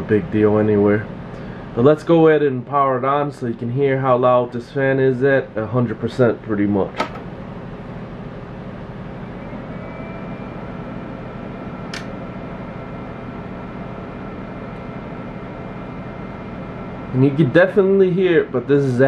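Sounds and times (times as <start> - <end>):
cooling fan rushing air: 0.0 - 19.0
faint high whine: 0.0 - 19.0.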